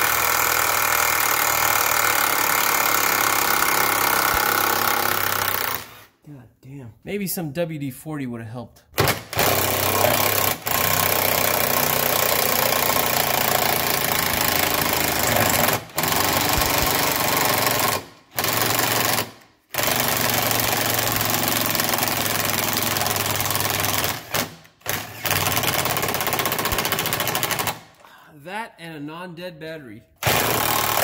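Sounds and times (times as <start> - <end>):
impact driver hammering: 0.0 - 6.0, 9.0 - 27.9, 30.2 - 31.0.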